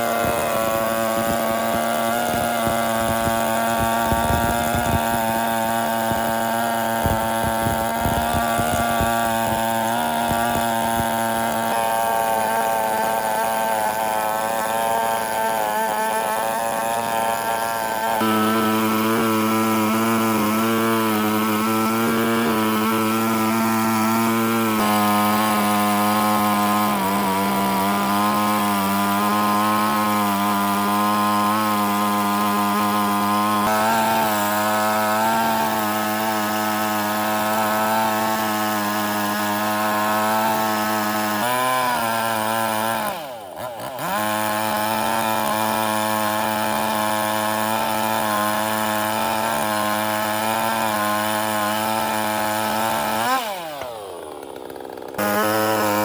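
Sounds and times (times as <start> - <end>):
woodworking power tool motor: 0.0 - 56.0.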